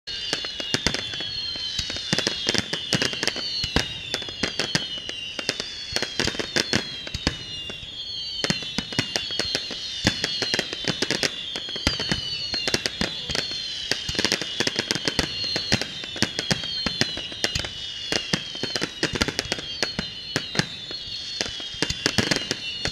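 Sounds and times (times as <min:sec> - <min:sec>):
firework bangs: 0:00.1 - 0:22.9
firework whistling: 0:00.1 - 0:22.9.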